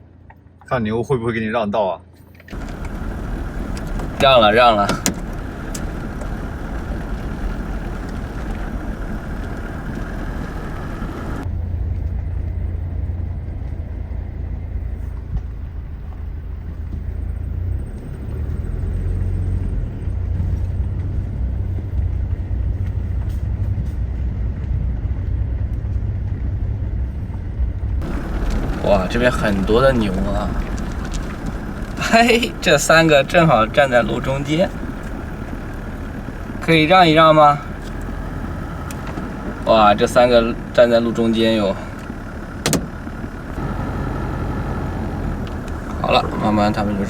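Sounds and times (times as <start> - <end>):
vehicle engine: 2.3 - 47.0
low engine drone: 2.5 - 47.0.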